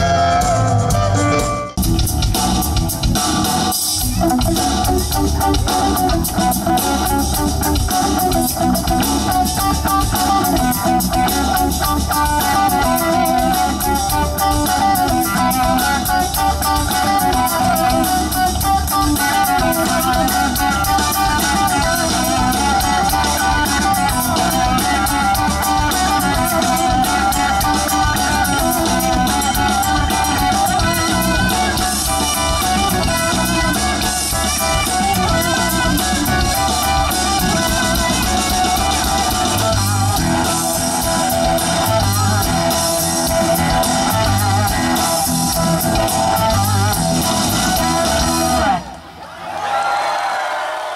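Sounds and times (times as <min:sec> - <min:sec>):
drum kit with cymbals: 0:00.0 - 0:48.9
bass guitar: 0:00.0 - 0:49.1
electric guitar lead: 0:00.0 - 0:49.2.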